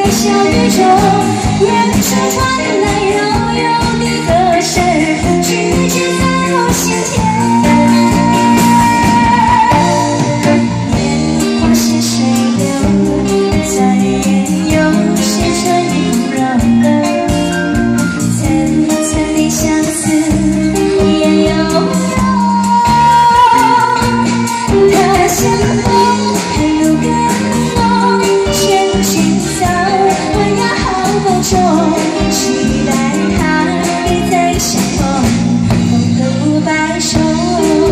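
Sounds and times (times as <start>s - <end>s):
live band playing pop song: 0.0s - 37.9s.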